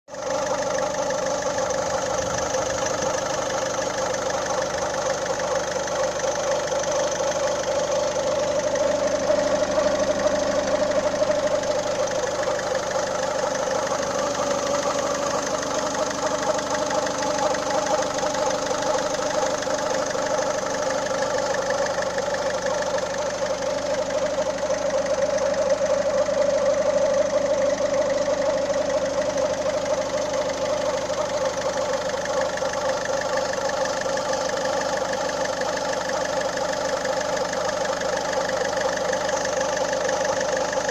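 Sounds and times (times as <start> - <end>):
diesel engine idling: 0.1 - 40.9.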